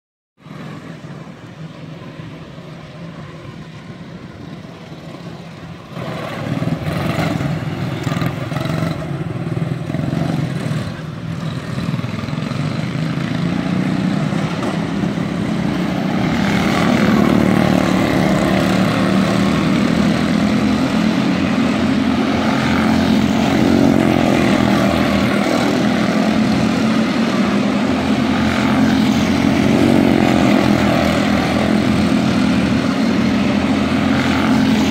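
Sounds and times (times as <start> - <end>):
race car engines droning: 0.4 - 34.9.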